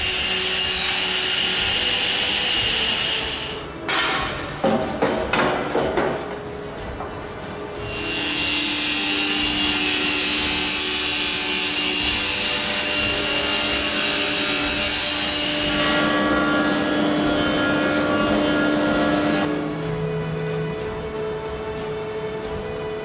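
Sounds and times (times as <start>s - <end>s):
thickness planer planing a board: 0.0s - 6.5s, 7.1s - 21.7s.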